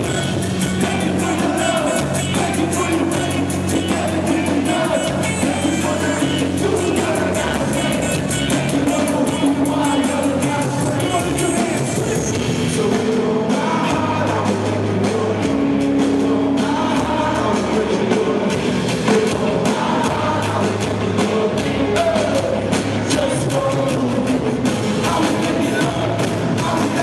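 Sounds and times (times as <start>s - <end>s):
live rock band playing: 0.0s - 27.0s
person singing: 0.0s - 27.0s.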